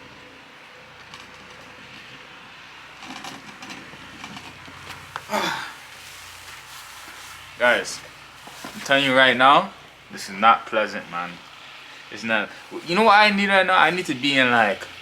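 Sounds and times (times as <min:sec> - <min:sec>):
electric snow blower humming: 0:00.0 - 0:15.0.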